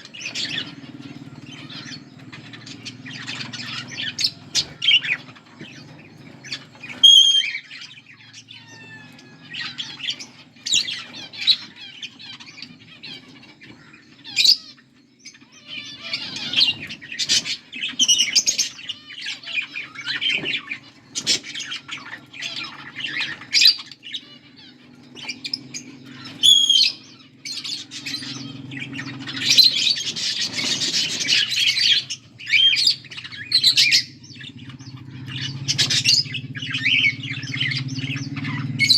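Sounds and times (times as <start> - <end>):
budgerigars chirping and squawking: 0.0 - 38.9.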